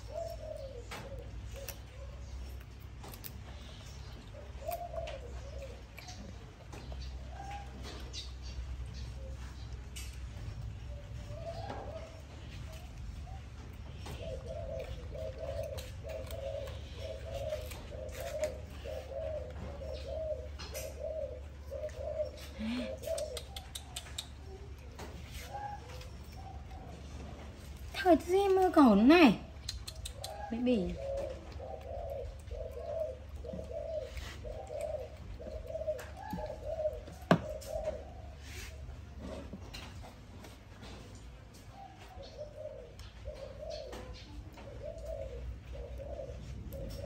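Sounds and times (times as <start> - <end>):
dove cooing: 0.0 - 47.0.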